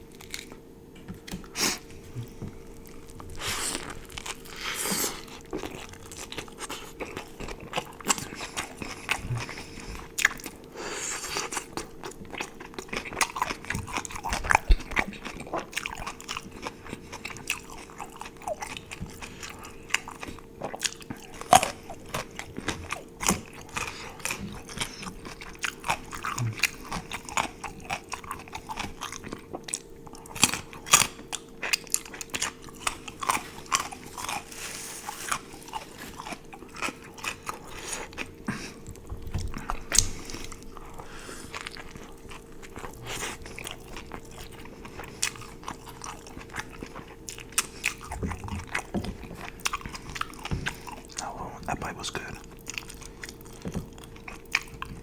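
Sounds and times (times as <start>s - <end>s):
faint steady hum: 0.0s - 55.0s
person chewing crunchy food: 0.0s - 55.0s.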